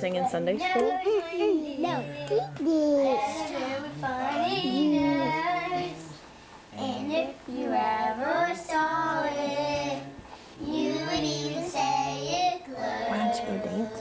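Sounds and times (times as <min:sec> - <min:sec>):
children singing: 0:00.8 - 0:14.0.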